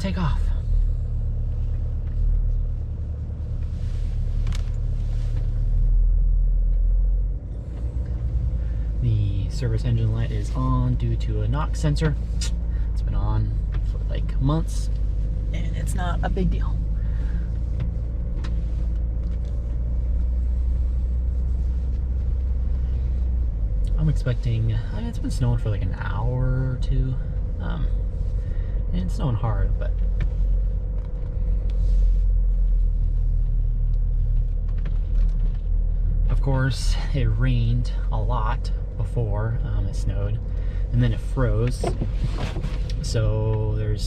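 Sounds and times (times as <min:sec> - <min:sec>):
car engine hum from cabin: 0:00.0 - 0:44.0.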